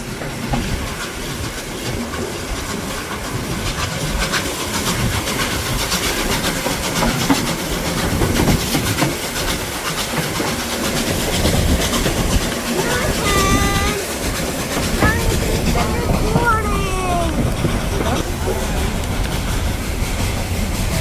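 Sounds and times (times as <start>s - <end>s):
railway carriages rumbling: 0.0s - 21.0s.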